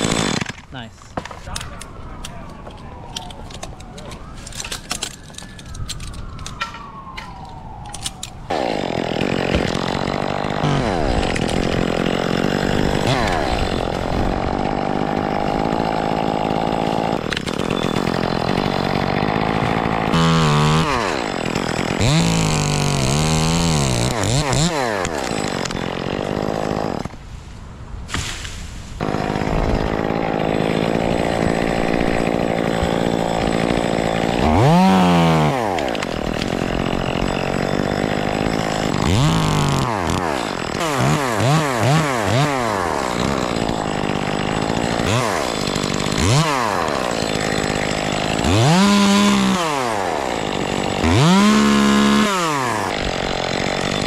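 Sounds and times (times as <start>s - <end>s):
chainsaw cutting wood: 0.0s - 1.5s, 8.5s - 27.2s, 28.1s - 54.0s.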